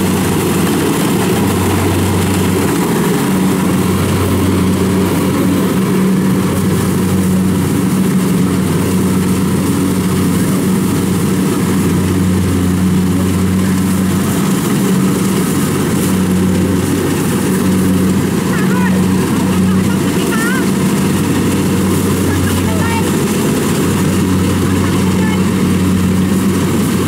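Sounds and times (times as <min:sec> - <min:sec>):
combine harvester engine running: 0:00.0 - 0:27.0.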